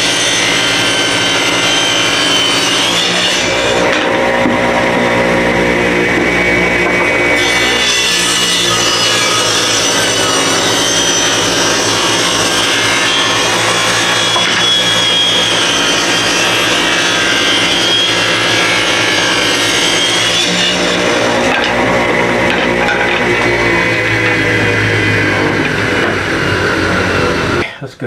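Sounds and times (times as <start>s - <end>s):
power saw cutting wood: 0.0s - 27.6s.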